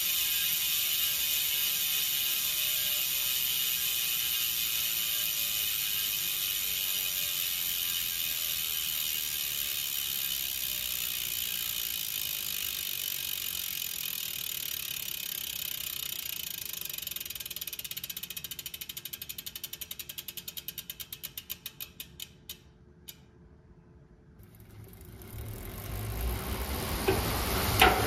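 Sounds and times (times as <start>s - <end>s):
bicycle hub ratchet buzzing: 0.0s - 23.3s, 24.4s - 28.0s.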